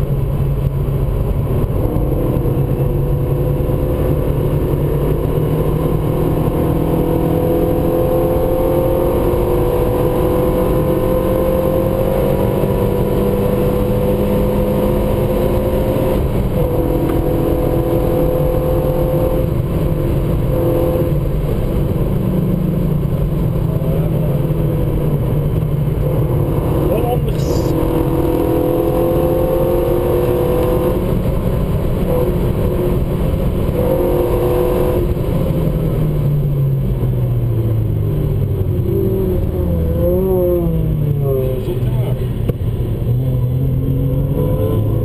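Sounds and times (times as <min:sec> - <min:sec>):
car engine accelerating: 0:00.0 - 0:45.0
wind and tyre noise: 0:00.0 - 0:45.0.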